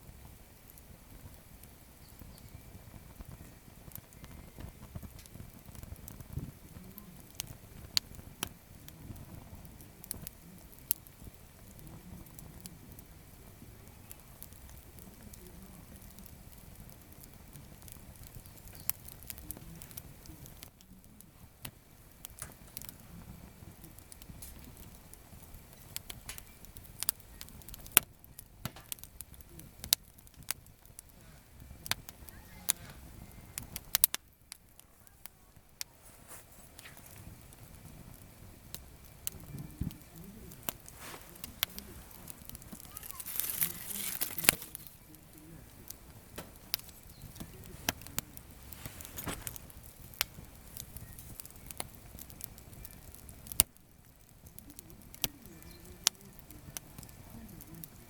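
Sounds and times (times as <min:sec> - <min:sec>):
campfire crackling and popping: 0:00.0 - 0:58.0
low rumble of burning: 0:00.0 - 0:58.0.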